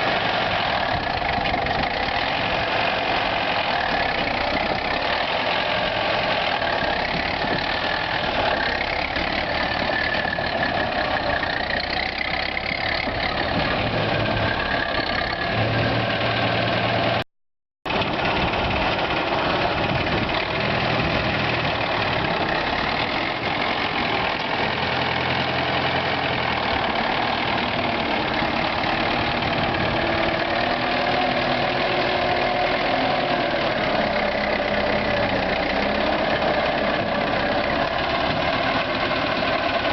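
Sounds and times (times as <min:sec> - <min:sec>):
diesel tractor engine running: 0:00.0 - 0:17.2, 0:17.9 - 0:39.9.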